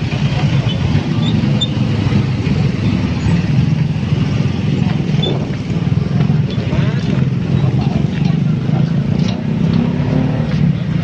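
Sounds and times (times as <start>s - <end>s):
motorcycle and car engines: 0.0s - 11.0s.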